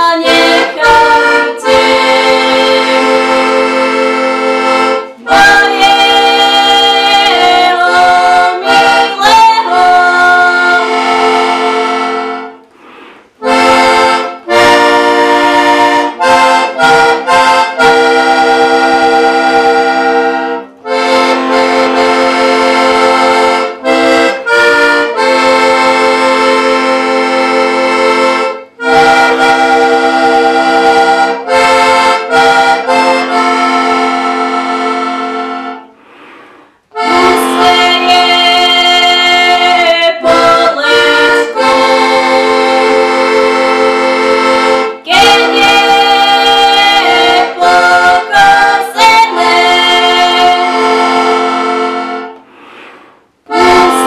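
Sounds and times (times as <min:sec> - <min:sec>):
button accordion playing a tune: 0:00.0 - 0:54.0.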